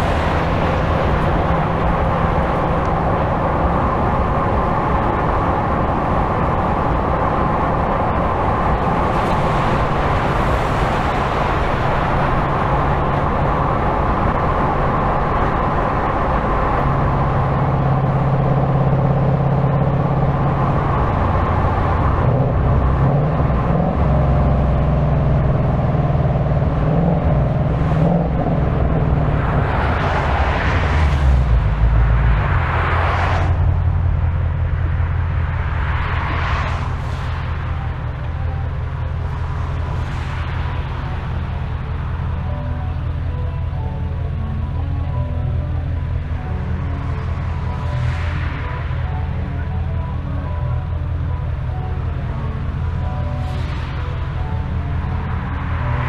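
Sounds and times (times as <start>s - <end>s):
car engine revving: 0.0s - 56.0s
tyre and road noise: 0.0s - 56.0s.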